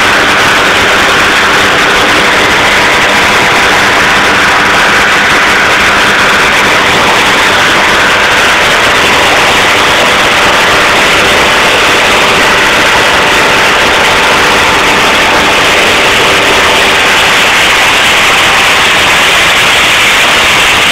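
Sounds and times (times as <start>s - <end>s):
loud hiss-like noise: 0.0s - 20.9s.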